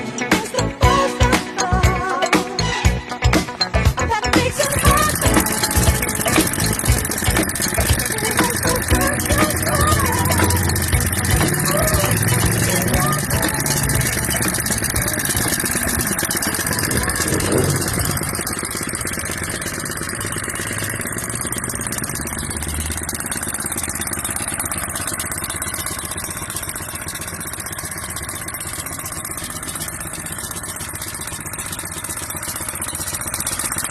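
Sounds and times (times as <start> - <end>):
tamping rammer engine running: 0.0 - 33.9.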